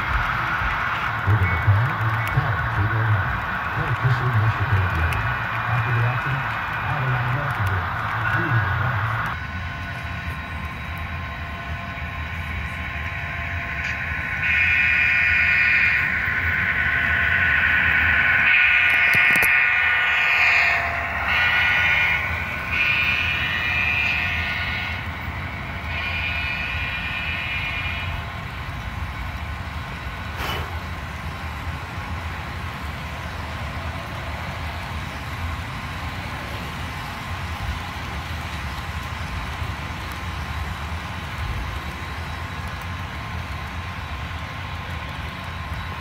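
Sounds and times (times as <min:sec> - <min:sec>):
model train rumbling on track: 0:00.0 - 0:46.0.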